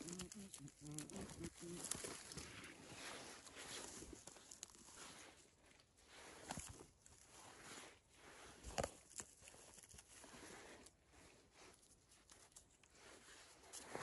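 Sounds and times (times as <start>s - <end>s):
gloved hand rustling in moss: 0.0s - 14.0s.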